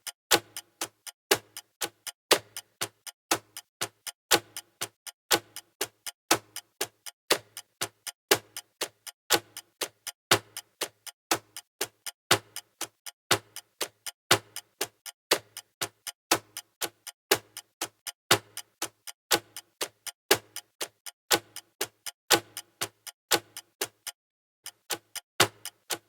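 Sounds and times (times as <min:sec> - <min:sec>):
clock ticking: 0:00.0 - 0:26.0.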